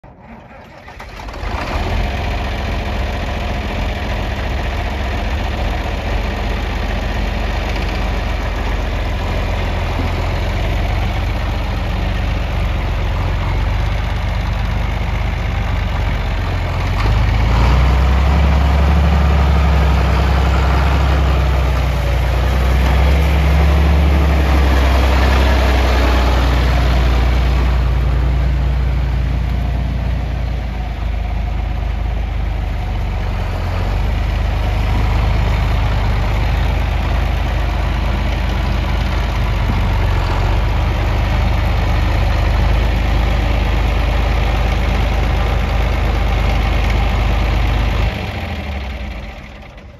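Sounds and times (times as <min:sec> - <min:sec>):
diesel tractor engine under load: 0:00.0 - 0:49.9.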